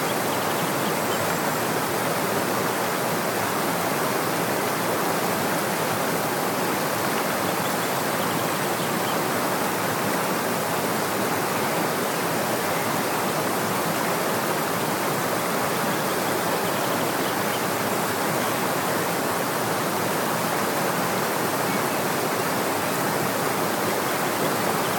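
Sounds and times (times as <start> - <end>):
stream and waterfalls rushing: 0.0 - 24.9.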